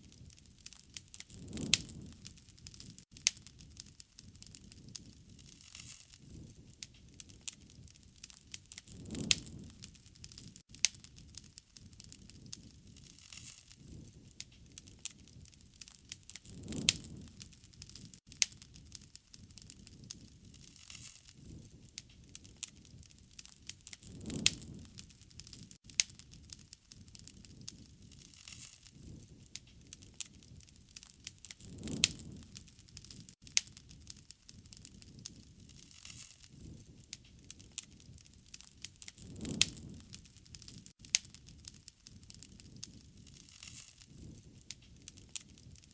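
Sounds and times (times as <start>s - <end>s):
wood fire crackling and popping: 0.0s - 45.9s
rushing swell of flame: 0.2s - 40.9s.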